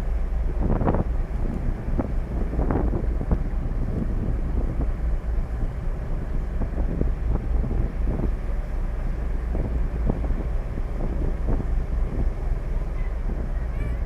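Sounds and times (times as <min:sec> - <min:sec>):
boat engines rumbling: 0:00.0 - 0:14.0
wind buffeting microphone: 0:00.0 - 0:14.0.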